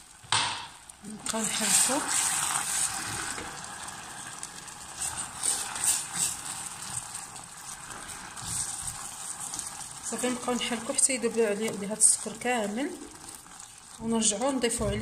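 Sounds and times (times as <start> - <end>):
caramel sizzling and bubbling: 0.0 - 15.0
wooden spoon stirring: 1.0 - 15.0.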